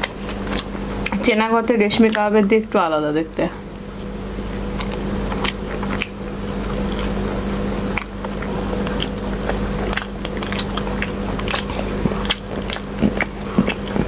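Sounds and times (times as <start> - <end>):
people chewing: 0.0 - 2.4, 3.7 - 14.0
electrical hum: 0.0 - 14.0.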